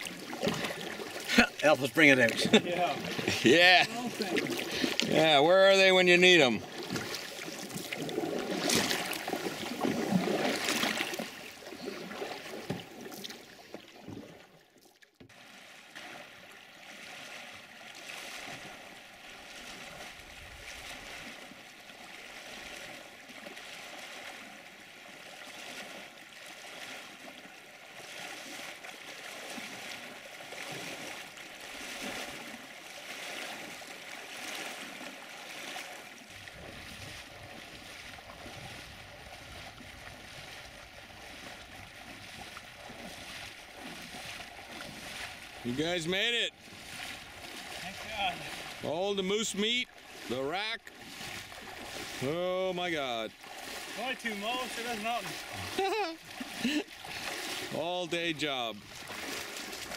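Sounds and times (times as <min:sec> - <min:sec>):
paddle strokes splashing: 0:00.0 - 0:59.9
river water rushing around canoe: 0:00.0 - 0:59.9.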